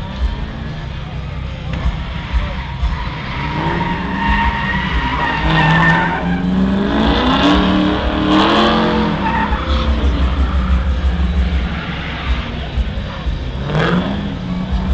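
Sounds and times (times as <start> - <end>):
car engine revving: 0.0 - 14.9
tires squealing: 0.0 - 14.9.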